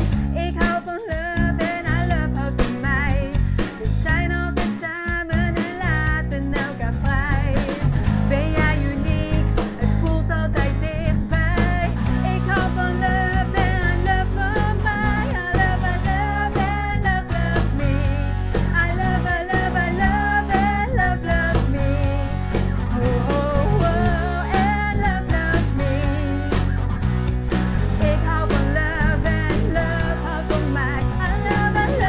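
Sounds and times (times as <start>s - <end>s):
woman singing with vibrato: 0.0s - 26.7s, 27.9s - 32.0s
rock band playing: 0.0s - 32.0s.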